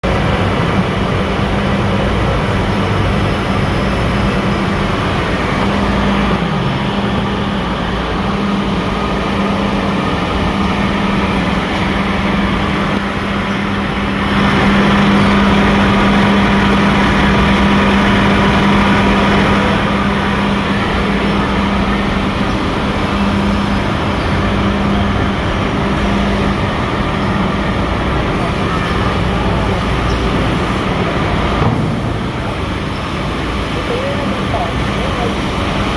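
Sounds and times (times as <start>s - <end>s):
machine humming: 0.0s - 35.9s.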